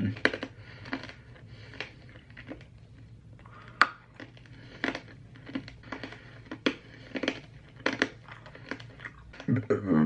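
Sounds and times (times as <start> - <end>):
hard candy crunching: 0.0 - 9.9.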